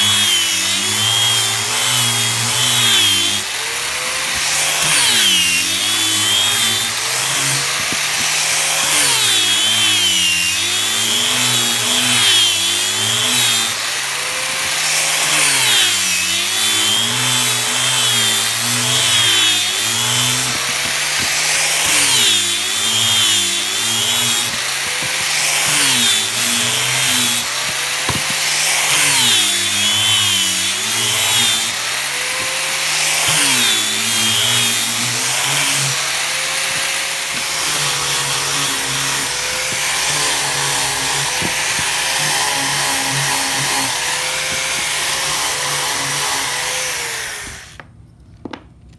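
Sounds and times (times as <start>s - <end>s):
angle grinder sanding wood: 0.0s - 47.8s.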